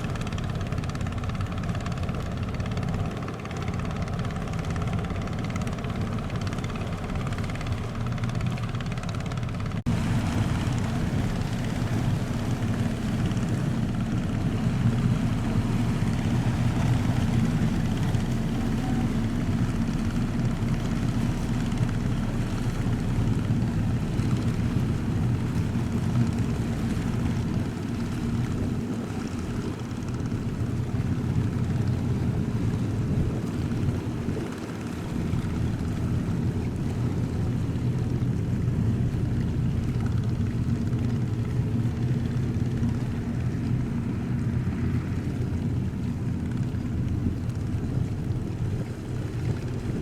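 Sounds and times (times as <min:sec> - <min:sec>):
ship engines droning: 0:00.0 - 0:50.0.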